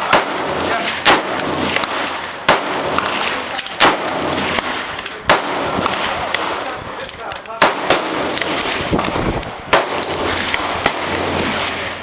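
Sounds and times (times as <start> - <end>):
rifle shots with echo: 0.0 - 12.0.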